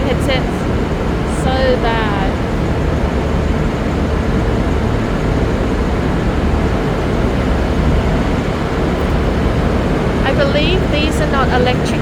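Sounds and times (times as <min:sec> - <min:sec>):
diesel trains idling: 0:00.0 - 0:03.7, 0:05.9 - 0:12.0.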